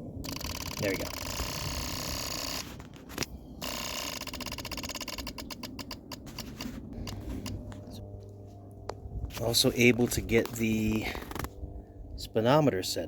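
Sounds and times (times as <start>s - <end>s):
electric fuel pump buzzing: 0.0s - 12.0s.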